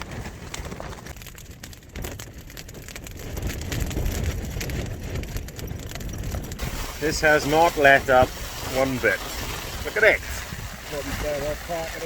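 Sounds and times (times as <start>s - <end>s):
rain tapping on tent fabric: 0.0s - 12.0s
wind buffeting a tent: 0.0s - 12.0s.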